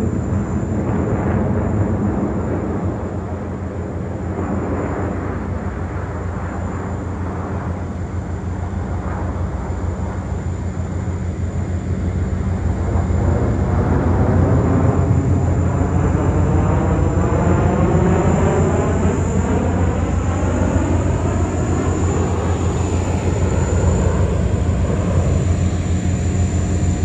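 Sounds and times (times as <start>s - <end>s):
fighter jets flying over: 0.0s - 27.0s.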